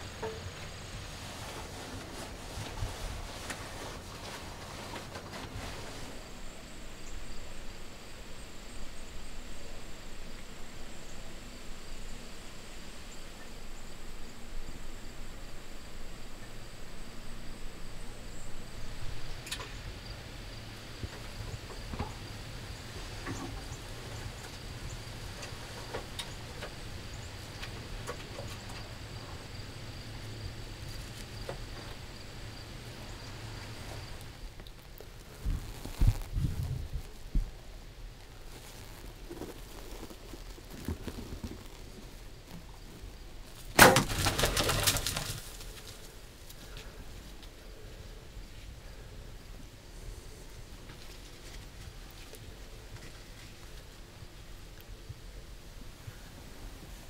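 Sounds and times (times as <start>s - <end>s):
faint ticks and rustles: 0.0s - 15.6s, 16.3s - 43.8s, 44.5s - 57.0s
low outdoor rumble: 0.0s - 57.0s
insects trilling: 4.2s - 57.0s.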